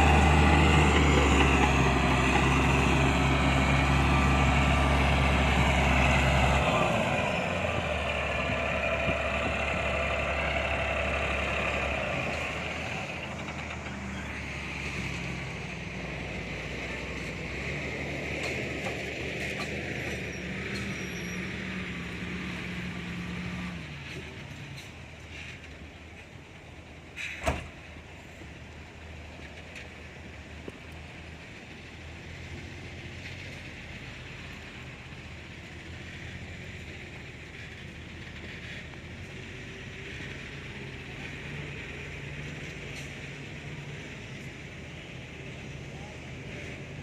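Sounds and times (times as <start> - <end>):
bulldozer diesel engine running: 0.0 - 47.0.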